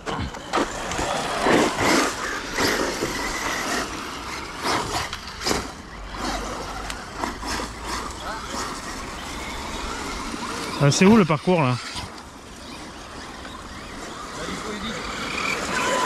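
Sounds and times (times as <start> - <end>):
electric rc cars running: 0.0 - 16.0
high motor whine: 0.0 - 16.0.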